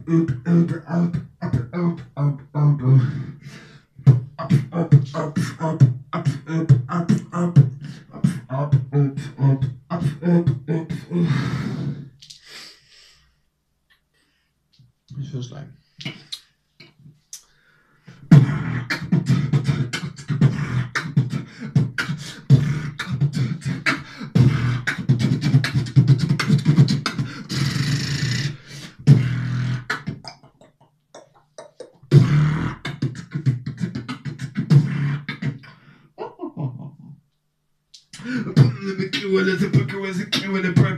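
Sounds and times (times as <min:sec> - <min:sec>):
person beatboxing: 0:00.0 - 0:12.6, 0:16.0 - 0:17.5, 0:18.1 - 0:37.1, 0:38.0 - 0:40.9.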